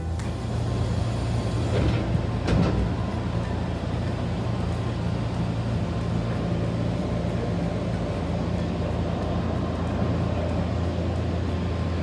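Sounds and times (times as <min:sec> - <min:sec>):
train cab hum and rumble: 0:00.0 - 0:12.0.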